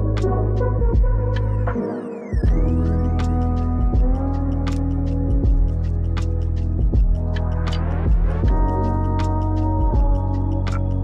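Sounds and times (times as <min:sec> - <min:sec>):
slow beat music with held chords: 0:00.0 - 0:11.0.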